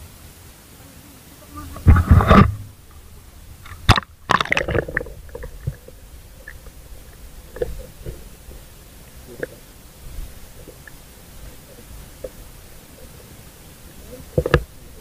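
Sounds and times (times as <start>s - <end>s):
water splashing: 0.0s - 15.0s
muffled underwater sound: 0.7s - 15.0s
faint underwater clicks: 1.6s - 15.0s.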